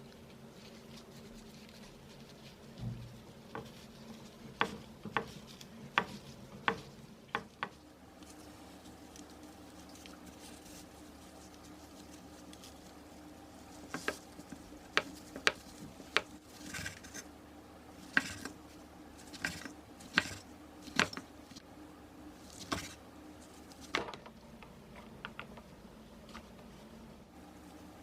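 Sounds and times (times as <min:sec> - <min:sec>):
brushing noises: 0:00.0 - 0:24.0.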